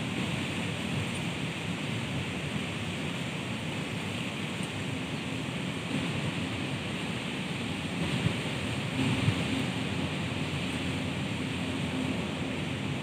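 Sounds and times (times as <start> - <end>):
wind rustling leaves and branches: 0.0 - 13.0.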